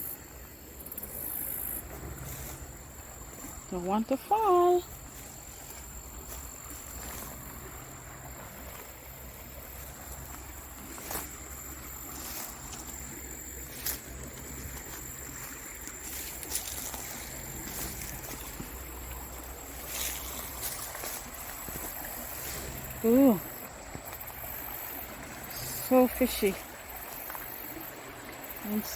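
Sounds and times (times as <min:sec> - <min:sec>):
stream water rushing: 0:00.0 - 0:28.9.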